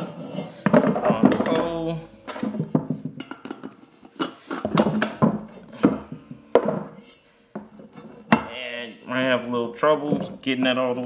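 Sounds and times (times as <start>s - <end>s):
hard parts knocking and rubbing: 0.0s - 11.0s.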